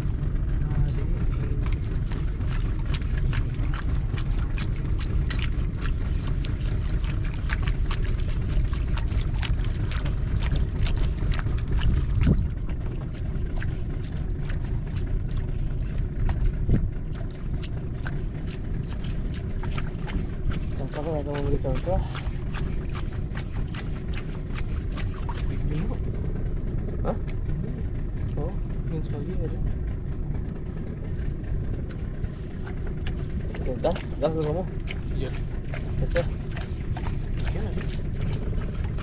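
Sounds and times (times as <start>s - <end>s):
steady low rumble: 0.0s - 39.0s
water lapping against a hull: 0.0s - 39.0s.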